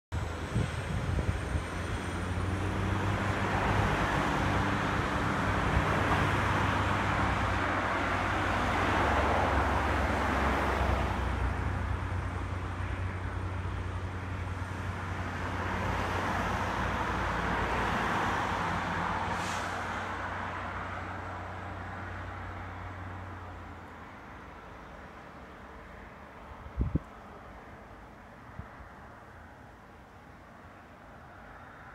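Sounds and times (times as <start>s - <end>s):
diesel engine droning: 0.1s - 25.8s
cars passing: 0.1s - 31.9s.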